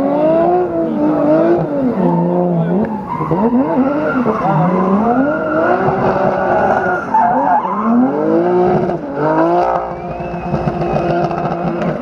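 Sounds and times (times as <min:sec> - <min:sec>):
car engine revving hard: 0:00.0 - 0:07.1, 0:07.7 - 0:12.0
tyres skidding and squealing: 0:00.5 - 0:12.0.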